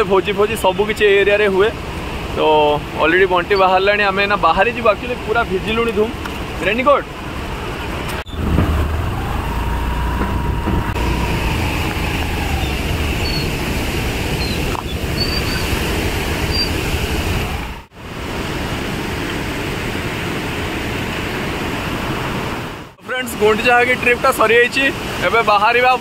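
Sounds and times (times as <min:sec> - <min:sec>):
heavy rain: 0:00.0 - 0:26.0
waterfall roaring: 0:00.0 - 0:26.0.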